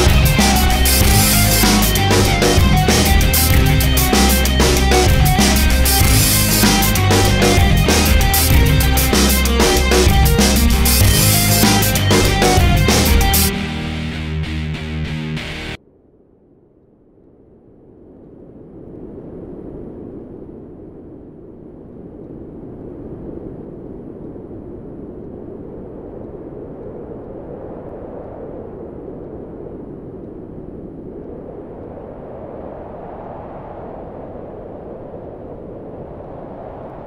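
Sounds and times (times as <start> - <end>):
low rumbling noise: 0.0 - 37.0.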